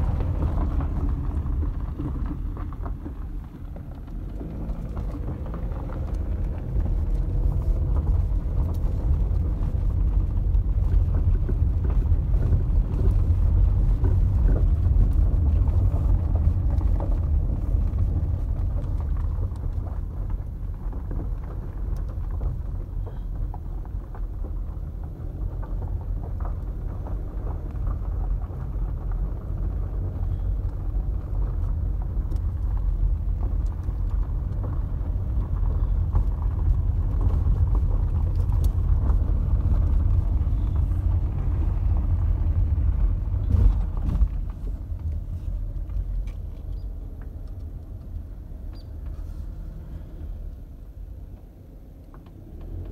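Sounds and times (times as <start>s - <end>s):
car rumbling on gravel: 0.0s - 52.9s
gravel ticks: 0.0s - 52.9s.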